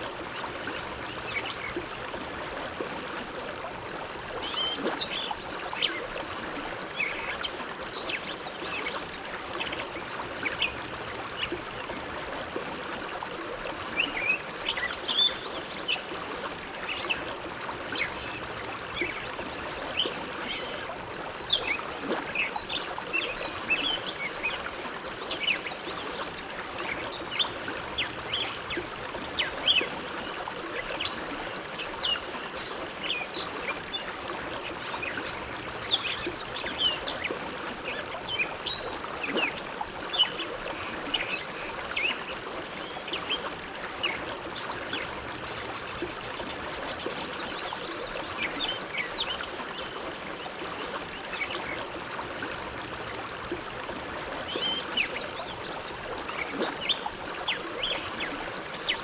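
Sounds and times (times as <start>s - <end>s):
water splashes and gurgles: 0.0s - 59.0s.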